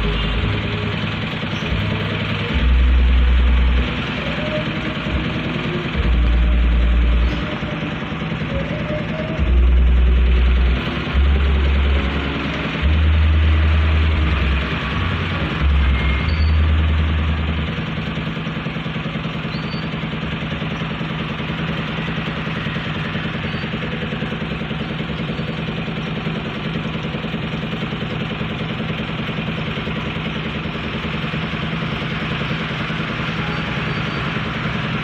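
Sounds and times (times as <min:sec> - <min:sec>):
deep engine rumble: 0:00.0 - 0:35.0
engine idling: 0:00.0 - 0:35.0.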